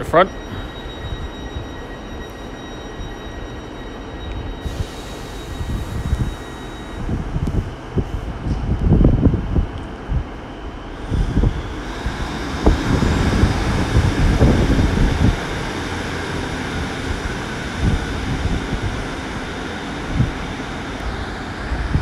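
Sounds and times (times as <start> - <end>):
diesel train engines running: 0.0 - 22.0.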